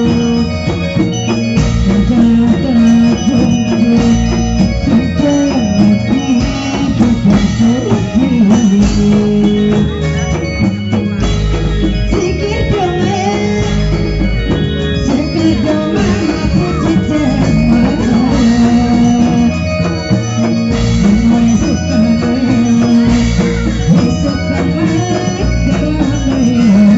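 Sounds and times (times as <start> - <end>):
hand drums: 0.0 - 26.9
wavering melody line: 0.0 - 26.9.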